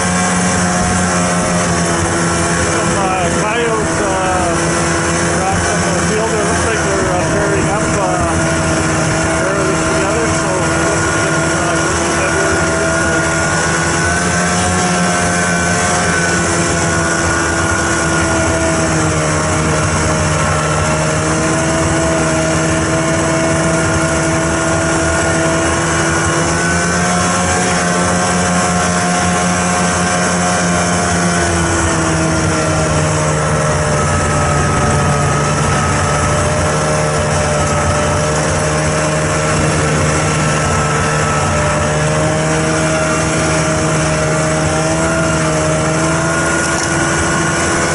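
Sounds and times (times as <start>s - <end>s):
rush of moving vehicle: 0.0s - 47.9s
snowmobile engine running: 0.0s - 47.9s.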